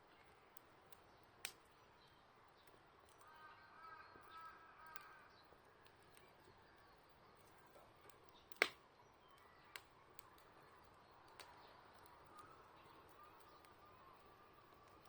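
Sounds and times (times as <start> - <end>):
wood fire crackling: 0.0 - 15.0
sharp pops from fire: 0.2 - 3.3, 4.9 - 15.0.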